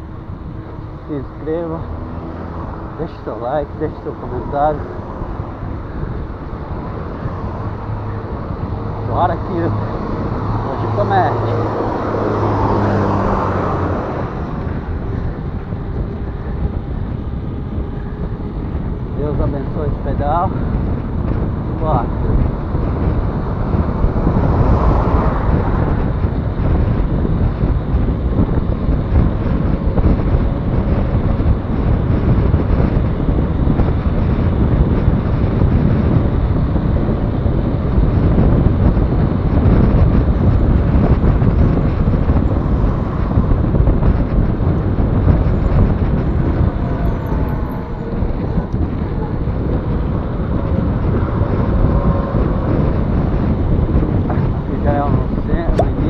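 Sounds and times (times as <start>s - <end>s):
road traffic: 0.0s - 56.0s
wind rushing over microphone: 0.0s - 56.0s.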